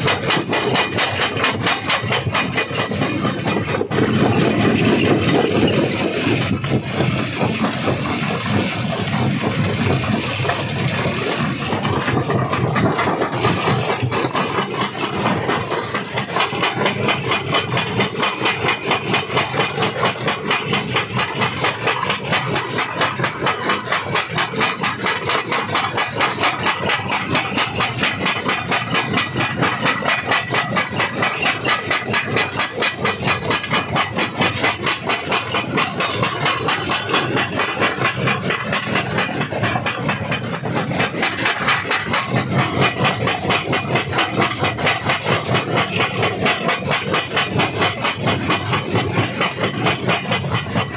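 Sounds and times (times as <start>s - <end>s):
stone crusher clattering: 0.0s - 50.9s.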